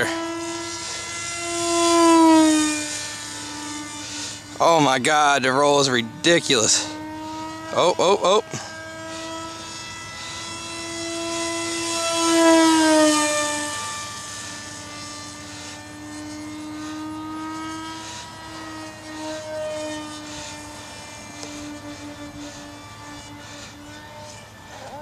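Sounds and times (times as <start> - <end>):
model airplane propeller whine: 0.0 - 25.0.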